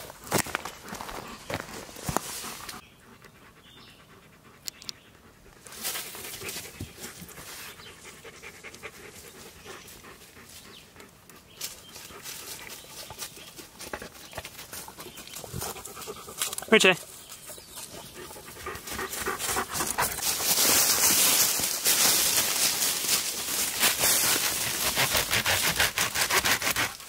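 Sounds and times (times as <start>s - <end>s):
dogs panting: 0.0s - 27.0s.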